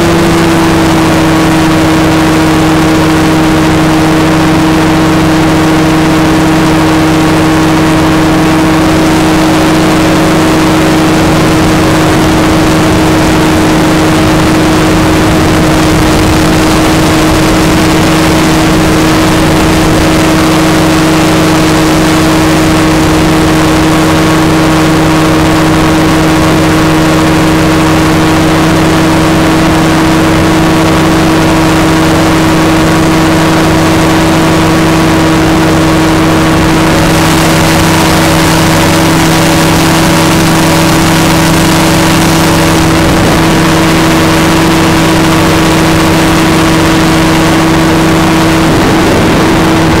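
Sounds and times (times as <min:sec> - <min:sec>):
aircraft engine droning: 0:00.0 - 0:50.0.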